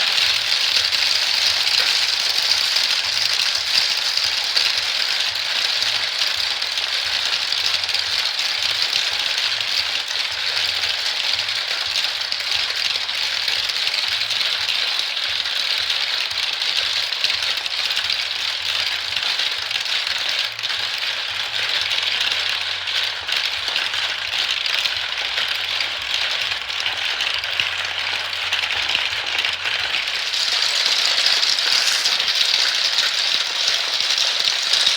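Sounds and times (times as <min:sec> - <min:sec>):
marbles rattling down track: 0:00.0 - 0:34.9.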